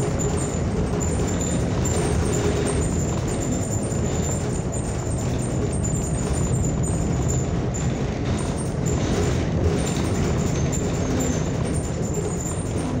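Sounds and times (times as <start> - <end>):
bus running noise: 0.0 - 13.0.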